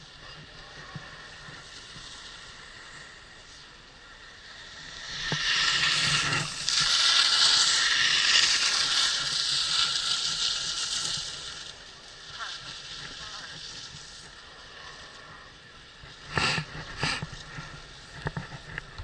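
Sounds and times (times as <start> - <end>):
skis scraping over snow: 0.0 - 19.0.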